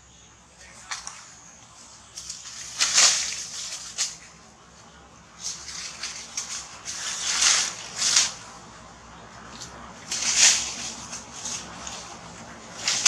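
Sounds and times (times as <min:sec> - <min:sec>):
leaves and branches rustling: 0:00.0 - 0:13.0.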